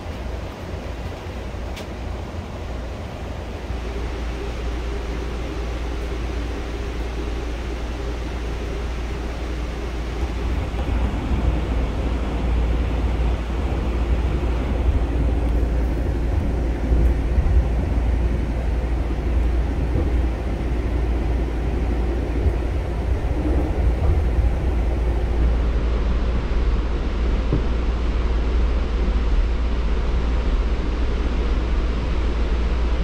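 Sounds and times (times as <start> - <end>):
train rumbling along rails: 0.0 - 33.0.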